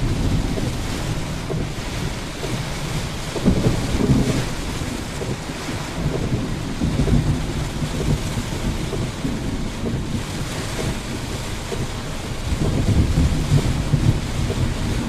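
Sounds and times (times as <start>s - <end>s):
continuous low rumble: 0.0s - 15.0s
rain hissing: 0.0s - 15.0s.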